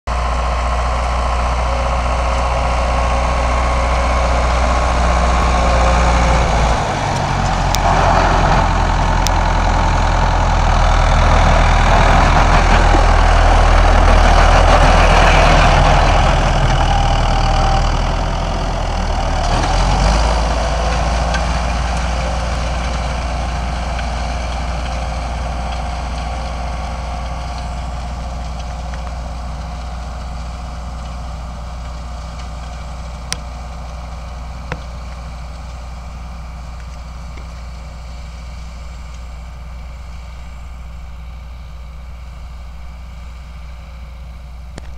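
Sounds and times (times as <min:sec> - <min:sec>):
tractor diesel engine running: 0:00.1 - 0:44.9.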